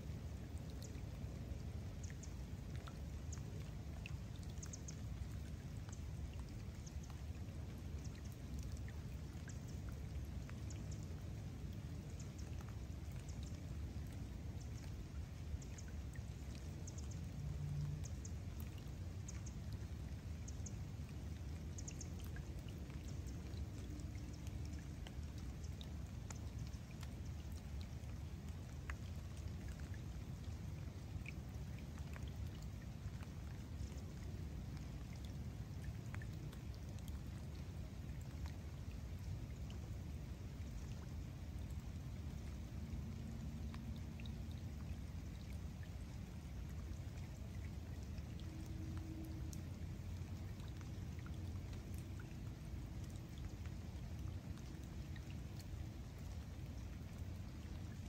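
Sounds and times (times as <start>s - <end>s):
rain falling on a lake: 0.0s - 58.0s.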